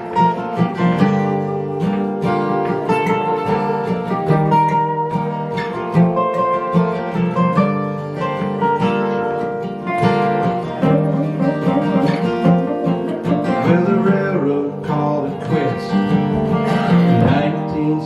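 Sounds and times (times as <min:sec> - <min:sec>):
acoustic guitar strumming chords: 0:00.0 - 0:18.0
bending melodic lead line: 0:00.0 - 0:18.0.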